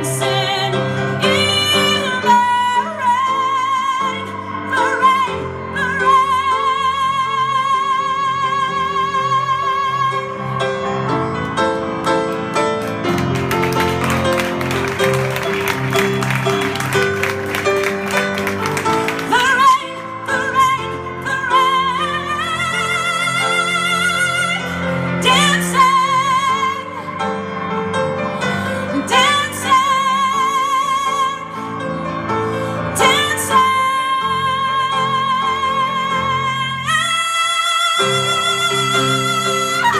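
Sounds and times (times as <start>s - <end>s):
band and piano playing: 0.0s - 39.9s
pop ballad melody with vibrato: 0.0s - 39.9s.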